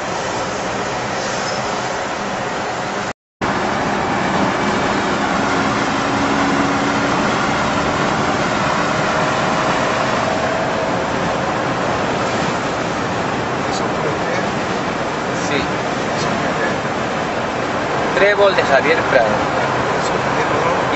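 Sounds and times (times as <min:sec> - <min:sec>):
road noise inside a moving car: 0:00.0 - 0:20.9.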